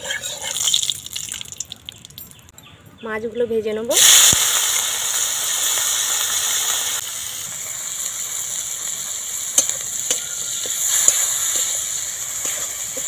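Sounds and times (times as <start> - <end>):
prawns sizzling in hot oil: 0.0 - 1.6, 3.9 - 13.0.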